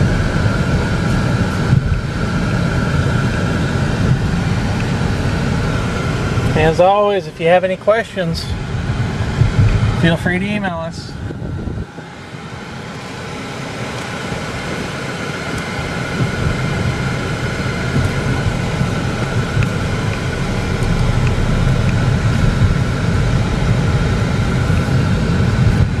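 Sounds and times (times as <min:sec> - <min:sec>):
car engine running: 0:00.0 - 0:26.0
road and tyre noise: 0:00.0 - 0:26.0.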